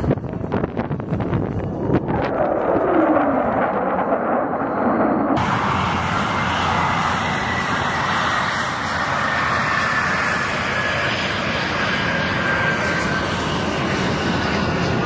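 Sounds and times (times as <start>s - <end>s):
propeller airplane engine: 0.0s - 15.0s.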